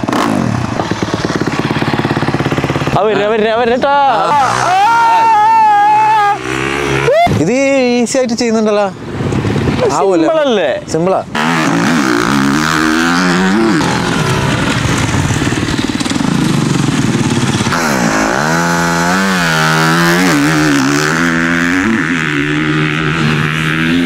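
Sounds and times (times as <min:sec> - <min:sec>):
motocross bike engine revving: 0:00.0 - 0:07.8, 0:11.2 - 0:24.0.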